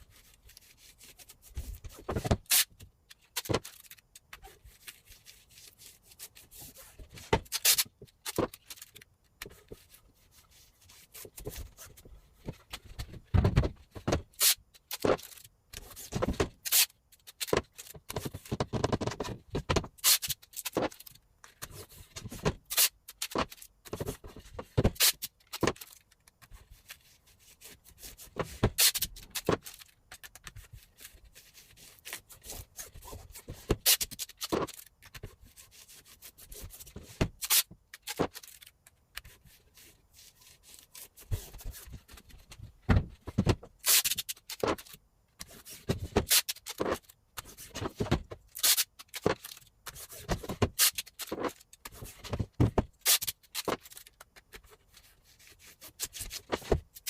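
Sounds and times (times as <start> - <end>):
rubbing and scraping: 0.0 - 57.0.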